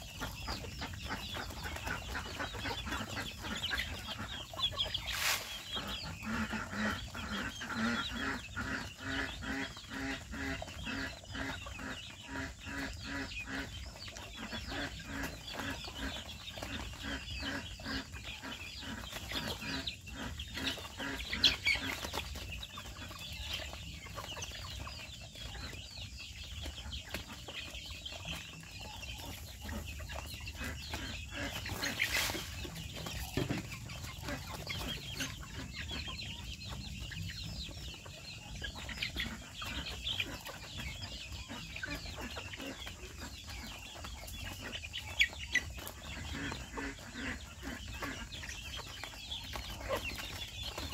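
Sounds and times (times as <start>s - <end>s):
chickens clucking: 0.0s - 50.9s
chicks peeping: 0.0s - 50.9s
hen giving low clucks: 0.0s - 50.9s.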